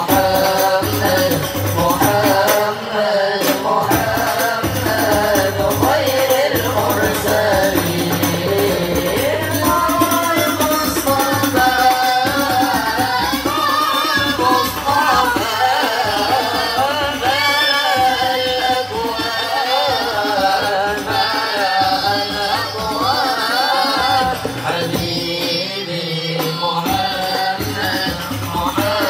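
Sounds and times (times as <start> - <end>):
boys singing through microphones: 0.0 - 29.0
frame drums beating: 0.0 - 29.0.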